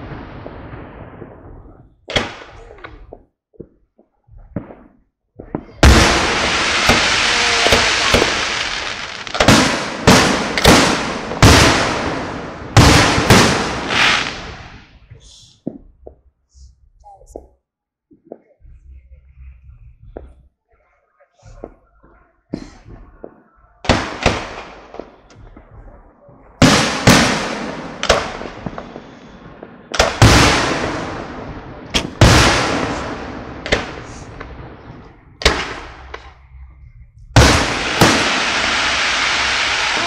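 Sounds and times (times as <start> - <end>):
fireworks bangs and rumble: 0.0 - 16.2, 21.4 - 40.0.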